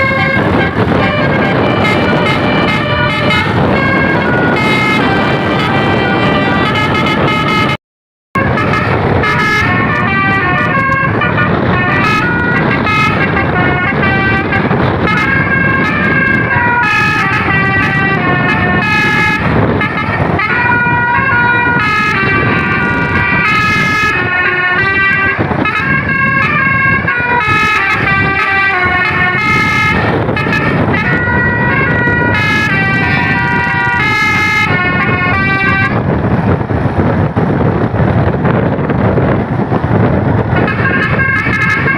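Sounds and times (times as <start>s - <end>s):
engine and road noise: 0.0s - 7.8s, 8.4s - 41.9s
multi-trumpet air horn melody: 0.0s - 7.8s, 8.4s - 36.1s, 40.5s - 41.9s.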